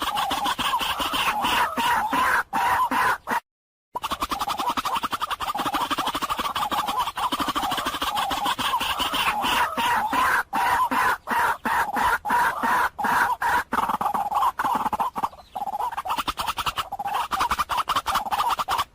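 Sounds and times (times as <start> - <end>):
waterhen calling rapid notes: 0.0 - 3.4, 4.0 - 18.9.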